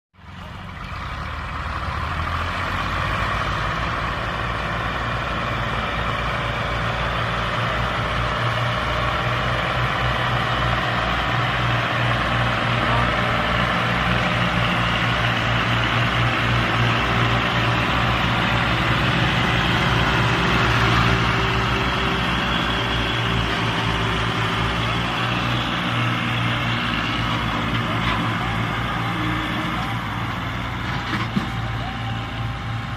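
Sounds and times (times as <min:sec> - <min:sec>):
tractor diesel engines running hard: 0:00.2 - 0:32.9.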